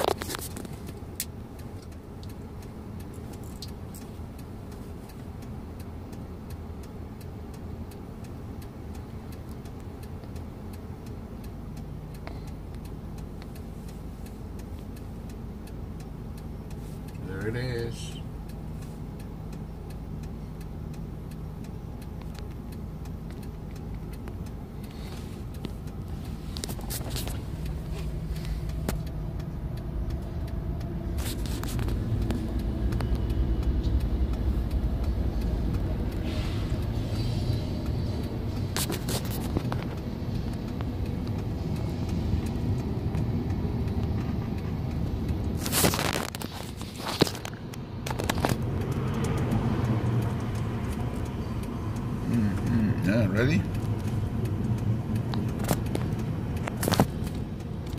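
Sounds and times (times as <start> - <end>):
car road and engine rumble: 0.0 - 57.9.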